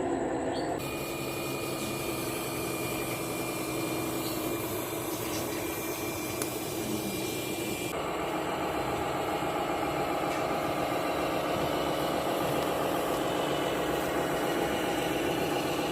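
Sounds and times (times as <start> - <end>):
model vehicle engine hum: 0.0 - 15.9.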